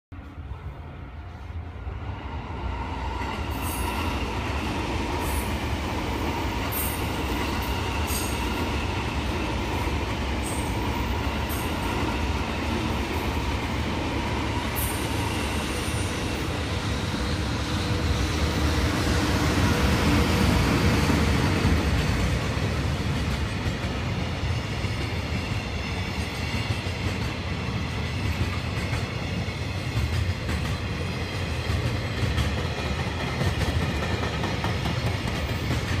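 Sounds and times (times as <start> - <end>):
train wheels rumbling on rails: 0.1 - 36.0.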